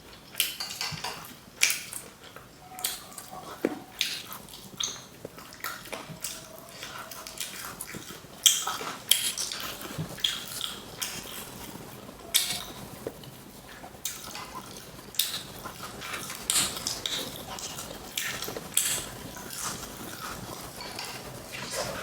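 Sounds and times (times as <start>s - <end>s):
person chewing crisp food: 0.0s - 22.0s.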